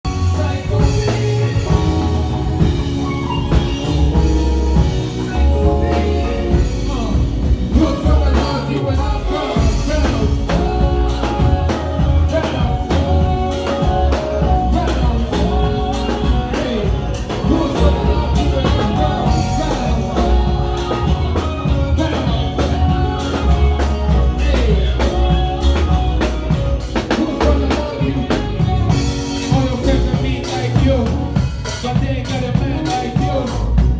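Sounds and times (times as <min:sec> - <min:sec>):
heavy bass line: 0:00.0 - 0:33.9
steady drum beat: 0:00.0 - 0:33.9
person singing: 0:00.1 - 0:33.9.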